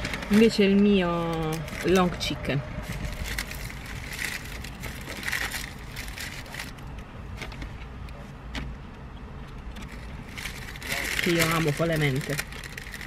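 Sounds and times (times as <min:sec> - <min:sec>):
paper wrapper crinkling: 0:00.0 - 0:07.7, 0:09.8 - 0:13.0.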